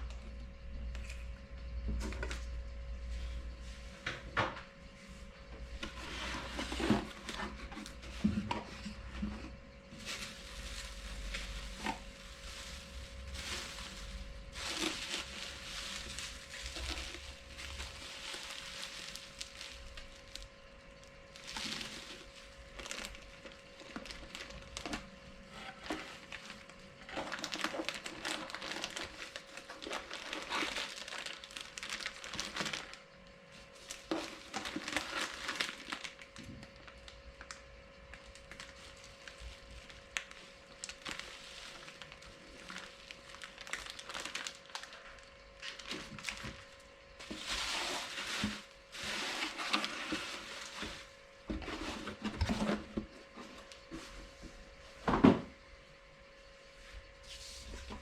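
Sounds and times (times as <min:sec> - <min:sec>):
faint steady hum: 0:00.0 - 0:58.0
packaging crinkling and rustling: 0:05.8 - 0:54.4.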